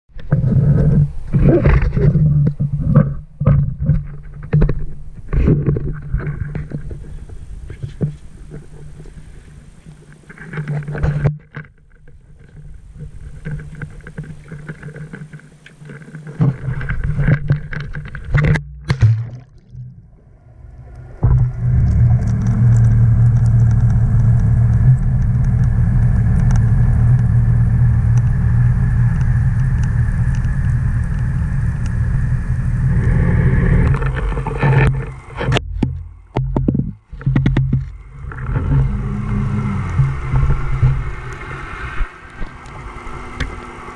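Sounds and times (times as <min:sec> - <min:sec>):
muffled underwater rumble: 0:00.1 - 0:43.9.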